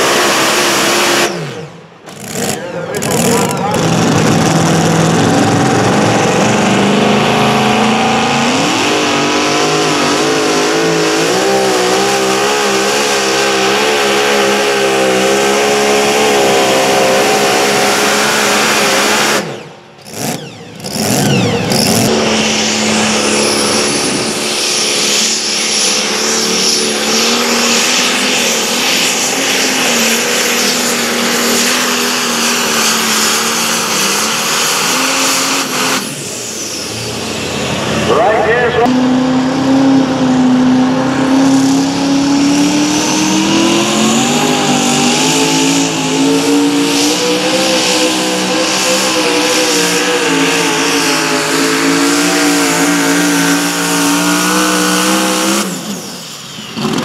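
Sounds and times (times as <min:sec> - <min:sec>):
second pulling engine running: 0:00.0 - 0:57.0.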